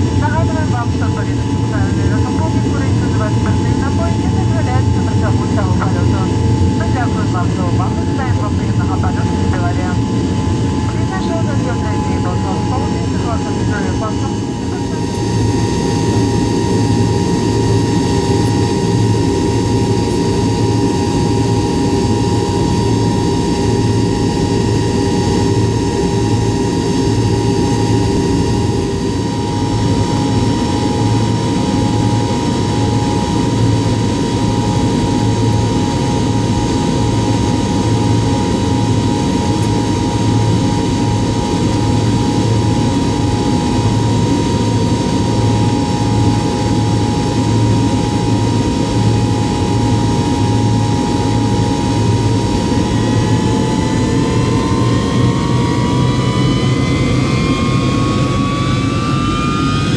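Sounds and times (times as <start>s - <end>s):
jet engine whine and drone: 0.0s - 59.9s
low hum: 0.0s - 59.9s.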